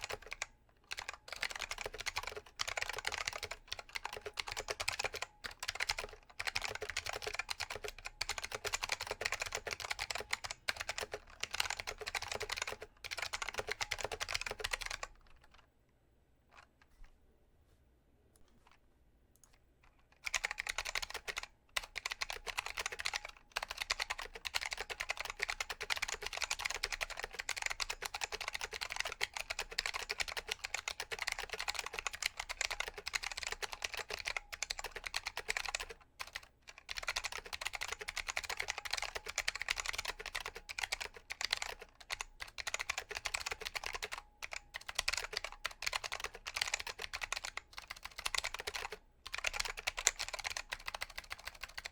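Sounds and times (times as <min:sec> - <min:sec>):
clicky mechanical keyboard typing: 0:00.0 - 0:15.6, 0:19.4 - 0:51.9.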